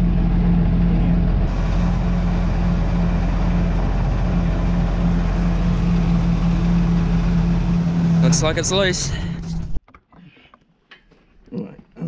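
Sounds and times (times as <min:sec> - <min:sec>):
tractor diesel engine running: 0:00.0 - 0:09.8.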